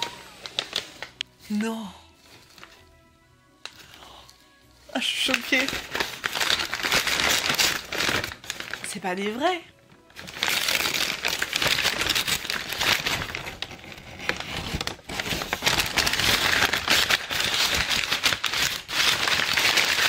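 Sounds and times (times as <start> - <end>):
packing paper crinkling: 0.0 - 3.0, 3.6 - 20.0.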